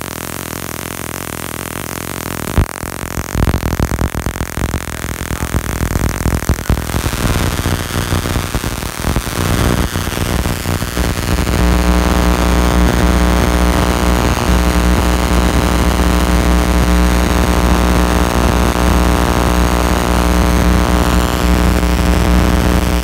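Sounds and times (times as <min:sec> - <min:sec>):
electrical hum with hiss: 0:02.5 - 0:23.0.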